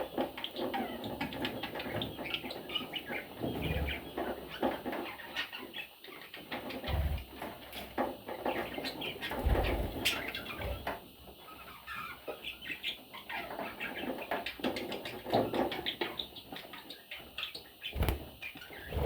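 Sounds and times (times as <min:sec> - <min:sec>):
budgies chirping: 0:00.0 - 0:19.0.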